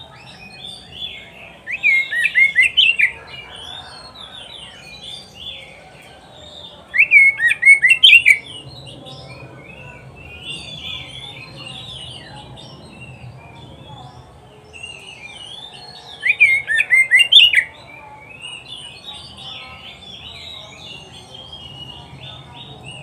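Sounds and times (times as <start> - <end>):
bird singing chattering phrases: 0.0 - 23.0.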